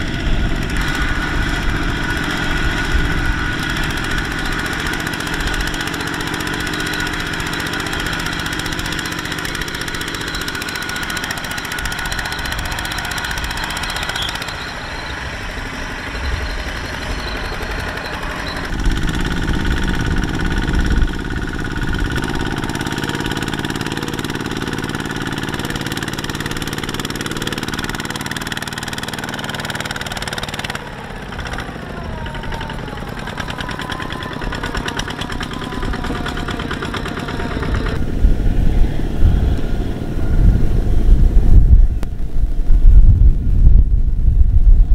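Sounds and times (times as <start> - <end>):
diesel engine under load: 0.0 - 43.4.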